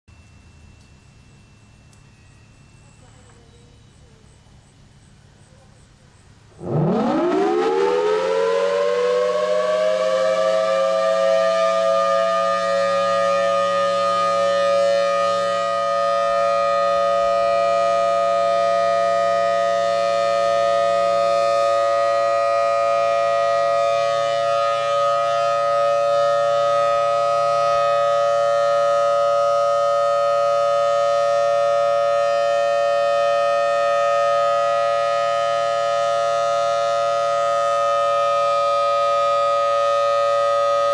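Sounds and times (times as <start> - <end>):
siren wailing: 6.6 - 40.9.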